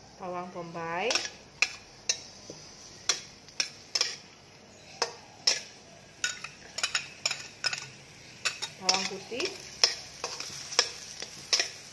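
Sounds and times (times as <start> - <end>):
faint sizzle: 0.0 - 11.9
metal spatula scraping pan: 1.1 - 11.9.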